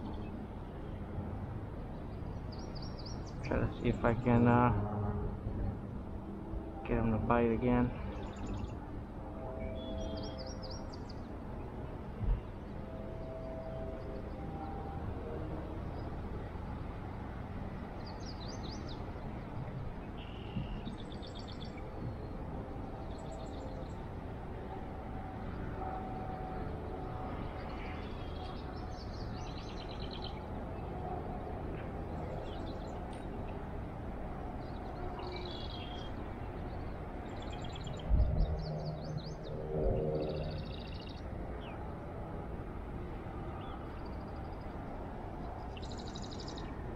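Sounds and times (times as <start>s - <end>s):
low outdoor rumble: 0.0s - 46.9s.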